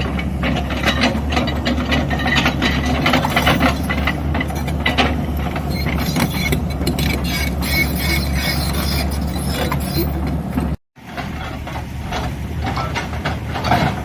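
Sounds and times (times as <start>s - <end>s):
diesel engine running: 0.0s - 14.0s
metallic clanks and rattles: 0.0s - 14.0s.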